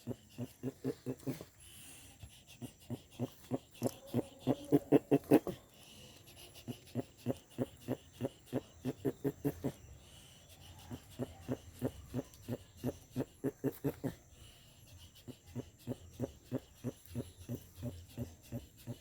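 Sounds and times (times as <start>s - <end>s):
tortoise grunting: 0.0s - 19.0s.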